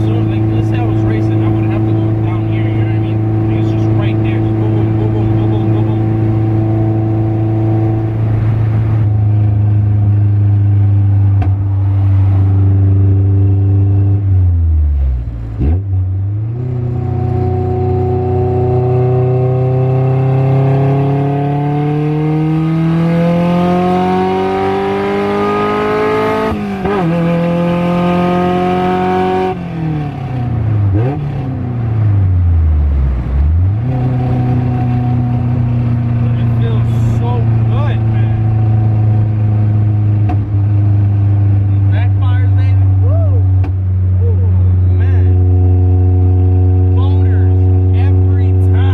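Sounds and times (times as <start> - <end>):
car engine accelerating through gears: 0.0 - 42.0, 42.8 - 48.9.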